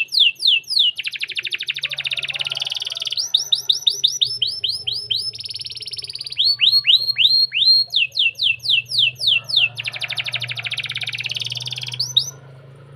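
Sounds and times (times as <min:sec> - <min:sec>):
canary singing: 0:00.0 - 0:12.9.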